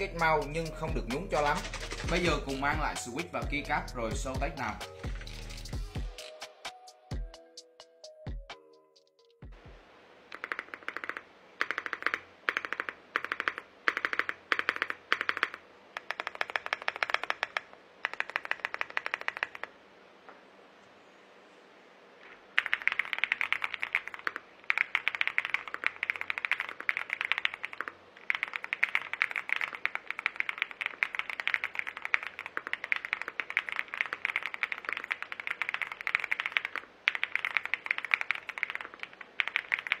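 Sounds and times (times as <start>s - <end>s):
mechanical keyboard typing: 0.0s - 6.3s, 10.3s - 19.7s, 22.6s - 40.0s.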